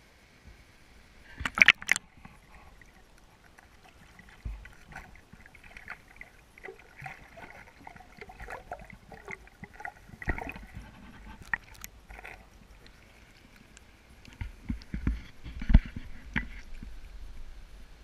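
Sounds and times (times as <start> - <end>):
river water splashing: 1.2 - 17.6
muffled underwater sloshing: 1.2 - 18.0.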